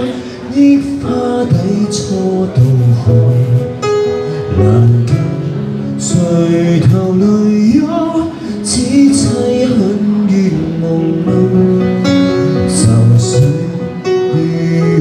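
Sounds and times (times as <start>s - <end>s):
man singing into a microphone: 0.0s - 15.0s
sustained keyboard chords: 0.0s - 15.0s.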